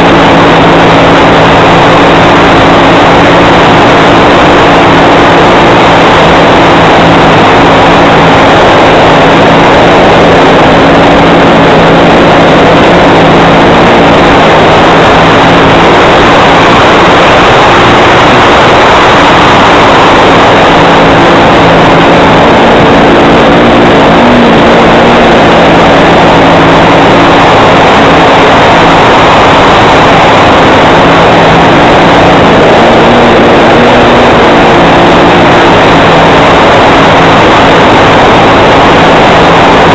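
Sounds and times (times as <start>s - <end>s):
dense rushing noise: 0.0s - 39.9s
model aircraft engine running: 0.0s - 39.9s.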